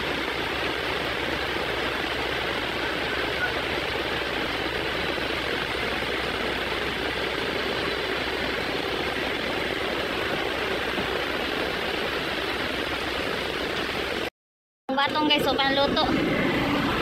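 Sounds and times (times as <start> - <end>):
heavy rain on road: 0.0 - 14.3.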